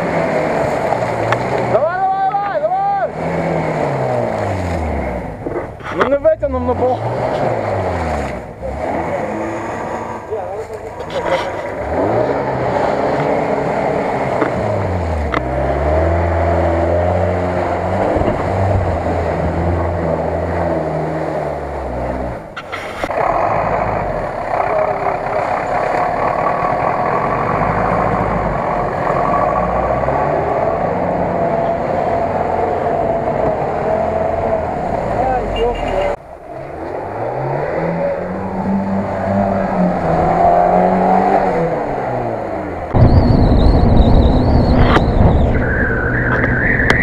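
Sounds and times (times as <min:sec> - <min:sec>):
off-road engine revving: 0:00.0 - 0:47.0
engine running under load: 0:03.0 - 0:46.6.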